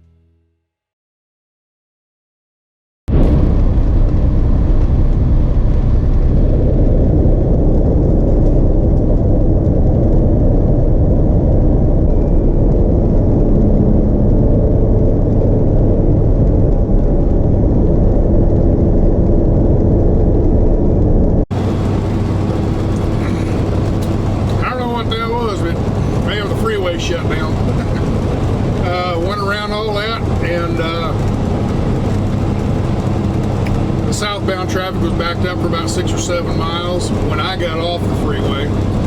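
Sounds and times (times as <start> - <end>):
road noise: 3.1 - 39.0
truck engine drone: 3.1 - 39.0.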